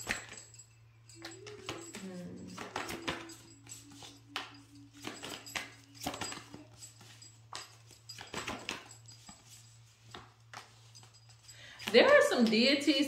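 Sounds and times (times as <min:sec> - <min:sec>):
cards being shuffled: 0:01.2 - 0:12.6.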